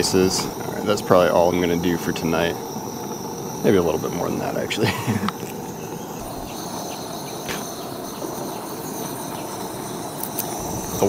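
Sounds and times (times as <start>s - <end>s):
high-pitched insect chorus: 0.0s - 11.0s
low even hiss: 0.0s - 11.0s.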